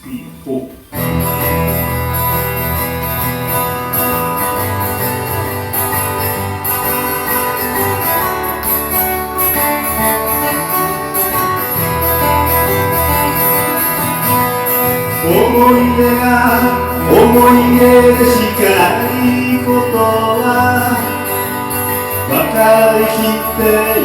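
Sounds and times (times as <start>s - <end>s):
guitar-led band playing: 0.7s - 24.0s
bass line: 1.0s - 24.0s.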